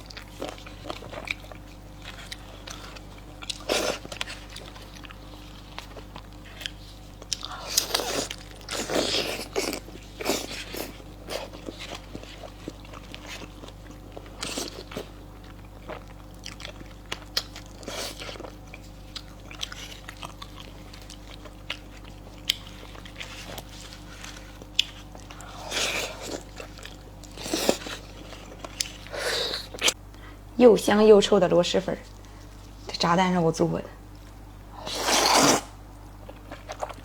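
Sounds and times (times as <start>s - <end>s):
close-miked chewing and crunching: 0.0s - 30.2s, 34.0s - 37.0s.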